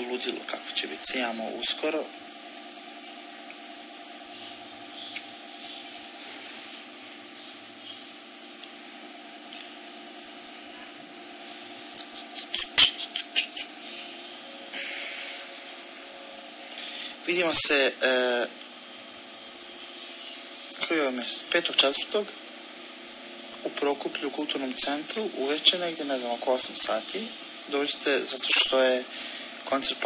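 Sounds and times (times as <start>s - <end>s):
mechanical hum with high whine: 0.0s - 30.0s.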